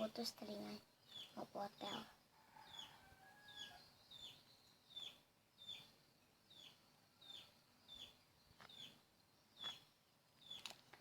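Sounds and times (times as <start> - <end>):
faint bird chirps: 0.0 - 10.8.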